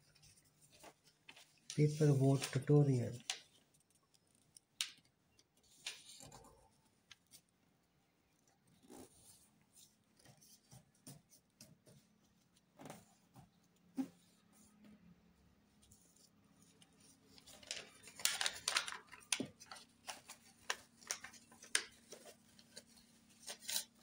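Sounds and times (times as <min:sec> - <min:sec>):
paper being folded and creased: 0:00.0 - 0:07.5, 0:08.7 - 0:13.2, 0:15.8 - 0:24.0.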